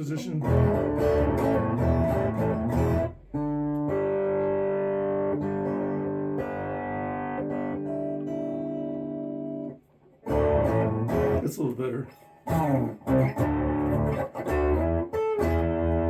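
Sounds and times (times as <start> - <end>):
distorted electric guitar chords: 0.0 - 11.5, 12.3 - 16.0.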